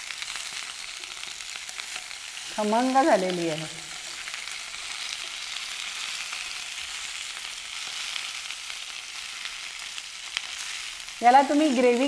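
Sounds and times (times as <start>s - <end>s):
peppers sizzling in oil: 0.0s - 12.0s.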